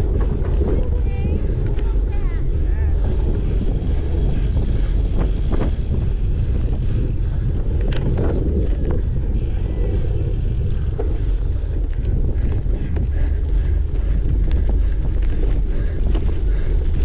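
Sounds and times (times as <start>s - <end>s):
bike rumbling and rattling: 0.0s - 17.0s
wind rushing over microphone: 0.0s - 17.0s.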